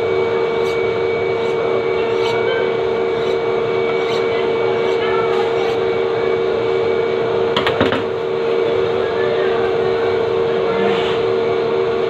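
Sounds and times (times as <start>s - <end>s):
machine hum with pitched tone: 0.0s - 12.0s.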